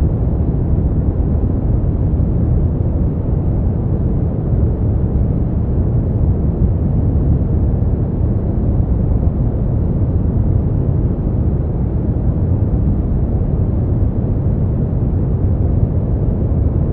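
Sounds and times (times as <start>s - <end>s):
deep brown noise: 0.0s - 16.9s.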